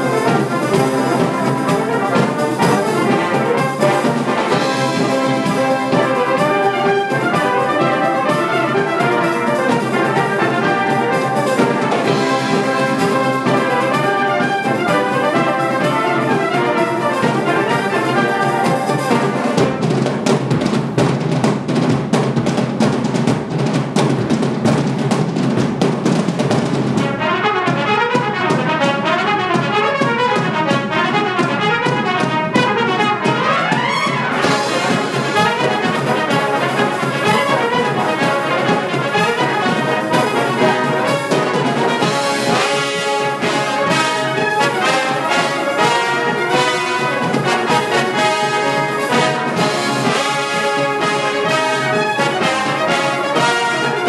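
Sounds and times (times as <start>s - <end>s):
brass band playing loudly: 0.0s - 54.0s.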